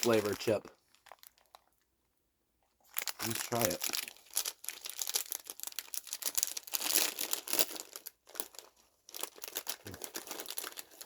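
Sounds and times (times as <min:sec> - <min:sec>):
plastic snack bag crinkling: 0:00.0 - 0:01.9, 0:02.8 - 0:11.0.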